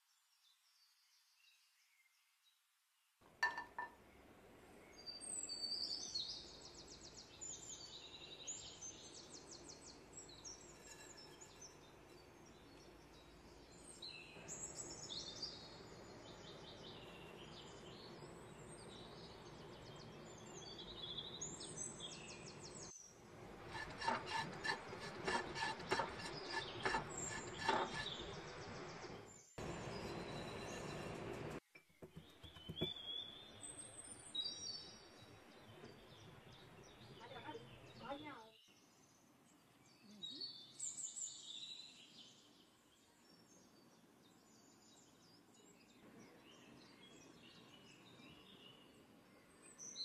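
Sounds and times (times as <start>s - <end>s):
small birds chirping: 4.8s - 23.2s, 23.8s - 50.0s.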